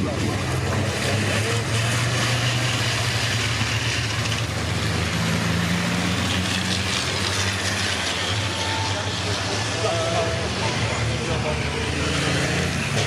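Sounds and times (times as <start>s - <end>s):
diesel truck engines droning: 0.0s - 13.0s
road noise: 0.0s - 13.0s.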